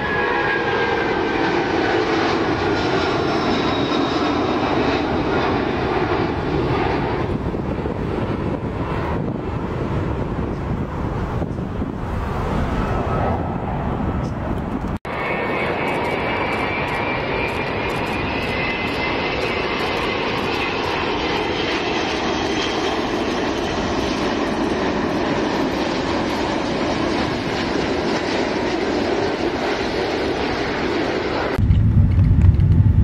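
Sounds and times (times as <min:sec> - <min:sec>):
deep jet rumble: 0:00.0 - 0:33.0
jet engines rushing and whining: 0:00.0 - 0:33.0.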